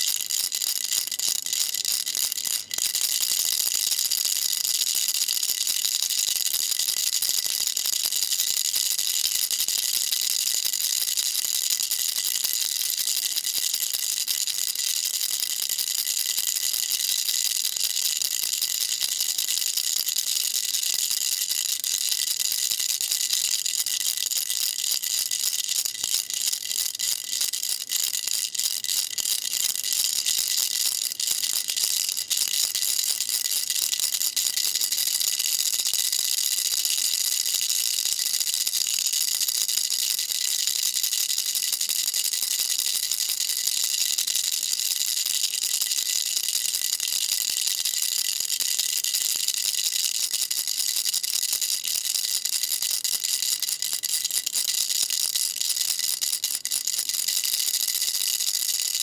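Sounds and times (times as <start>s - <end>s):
baby rattle shaken: 0.0s - 8.1s, 18.5s - 59.0s.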